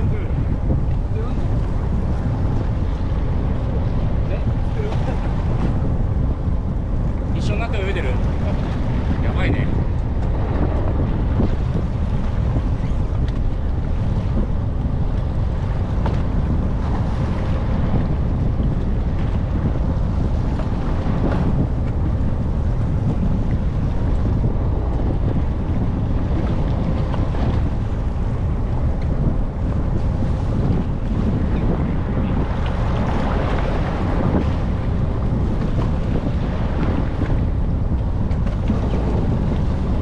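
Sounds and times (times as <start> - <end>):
rumble of water and boat: 0.0 - 40.0
wind buffeting microphone: 0.0 - 40.0.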